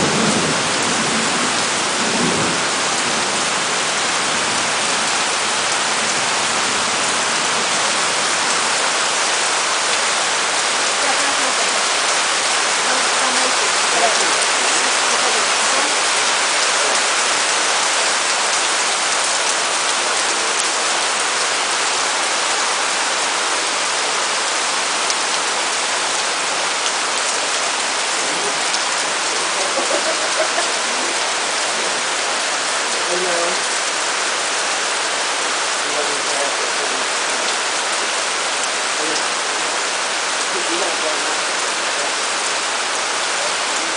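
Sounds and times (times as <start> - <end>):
heavy rain on foliage: 0.0 - 43.9.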